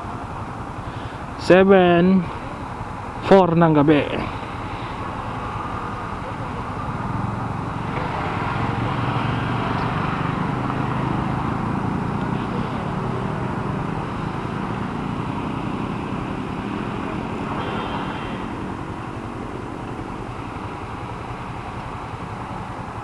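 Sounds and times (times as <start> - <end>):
motorcycle engine at low speed: 0.0 - 23.0
surrounding traffic: 0.0 - 23.0.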